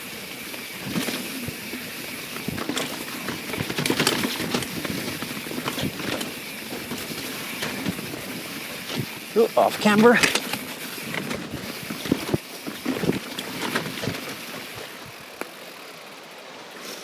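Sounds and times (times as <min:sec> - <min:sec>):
bike rattling over bumps: 0:00.0 - 0:17.0
bike tyres rushing over leaves: 0:00.0 - 0:17.0.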